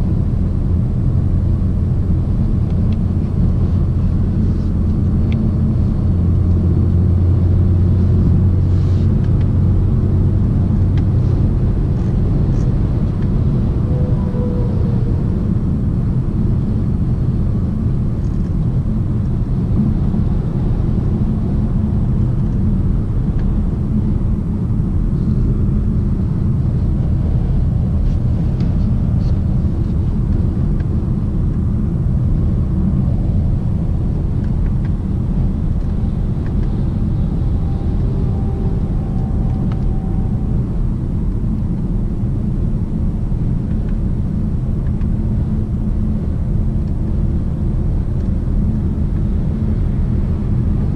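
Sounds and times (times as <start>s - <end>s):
car cabin road and engine rumble: 0.0s - 50.9s.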